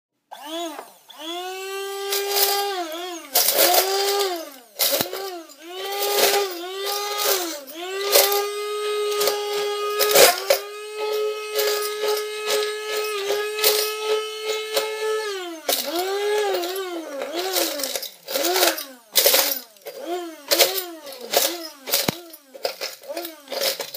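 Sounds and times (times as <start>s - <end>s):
hand blender whirring: 0.3s - 23.9s
cereal rattling against plastic: 2.0s - 23.9s.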